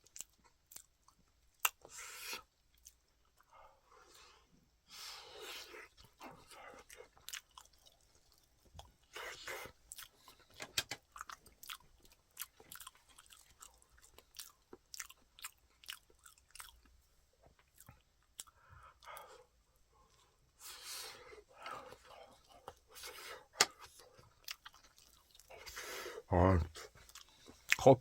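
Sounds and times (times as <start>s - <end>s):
person chewing food: 0.0s - 27.9s.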